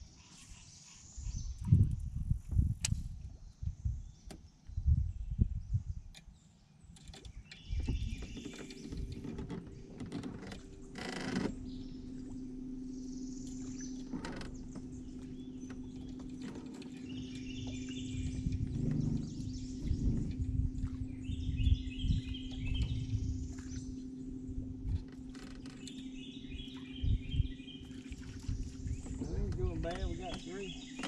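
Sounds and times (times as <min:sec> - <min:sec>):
wind buffeting microphone: 0:01.2 - 0:06.1, 0:07.2 - 0:12.6, 0:13.6 - 0:31.0
boat motor humming: 0:06.0 - 0:31.0.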